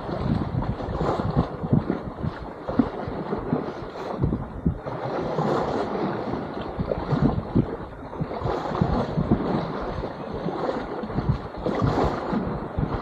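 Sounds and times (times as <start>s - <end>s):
sea water sloshing and splashing: 0.0s - 13.0s
wind buffeting microphone: 0.0s - 13.0s.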